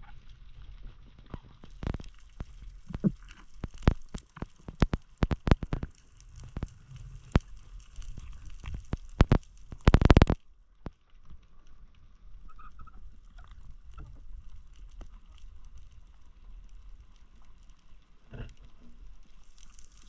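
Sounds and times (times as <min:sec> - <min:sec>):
underwater clicks and snaps: 0:00.0 - 0:20.0.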